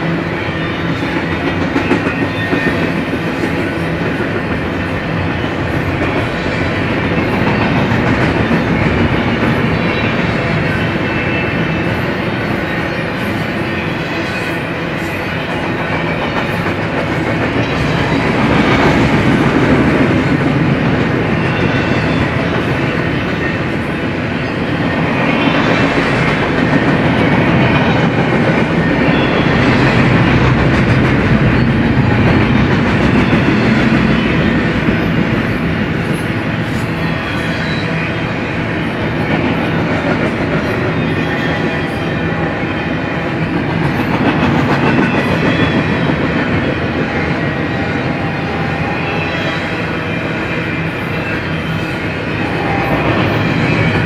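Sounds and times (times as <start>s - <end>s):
freight train wheels rolling on rails: 0.0s - 54.0s.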